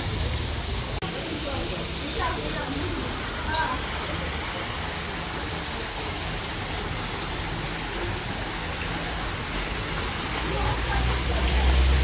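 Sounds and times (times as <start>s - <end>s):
waterfall fountain rushing: 0.0s - 12.0s.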